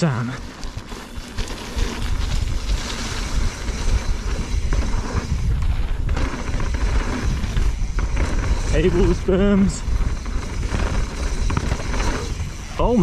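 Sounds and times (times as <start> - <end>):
bike tyres crunching on dirt: 0.0 - 13.0
bike knocks and rattles: 0.4 - 13.0
wind buffeting microphone: 0.5 - 13.0.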